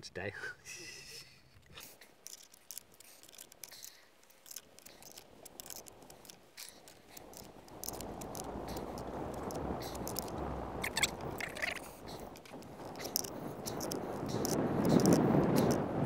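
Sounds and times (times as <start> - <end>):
steady rushing noise: 2.1 - 16.0.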